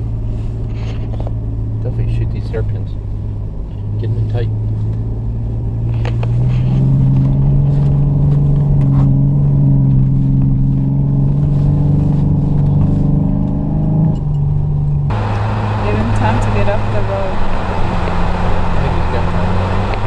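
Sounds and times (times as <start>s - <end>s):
car engine pulling under load: 0.0s - 20.0s.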